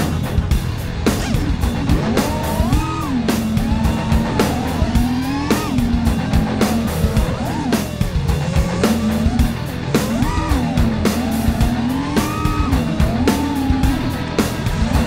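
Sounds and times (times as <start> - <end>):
drum beat: 0.0 - 15.0.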